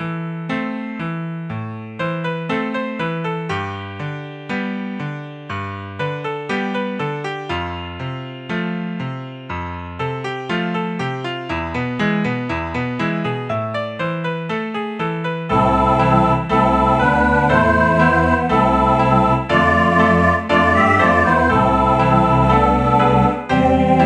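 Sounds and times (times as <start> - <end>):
computer-played piano: 0.0 - 24.0.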